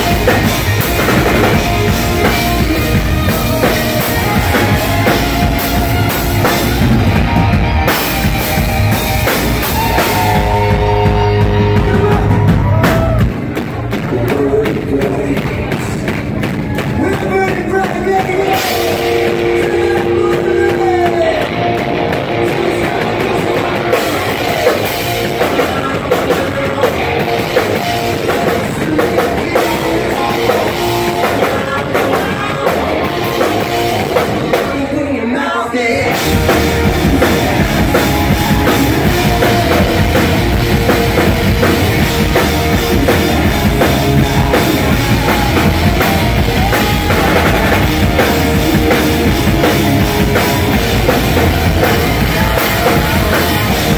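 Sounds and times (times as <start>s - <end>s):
person singing: 0.0s - 8.5s, 17.0s - 53.9s
live rock band playing: 0.0s - 53.9s.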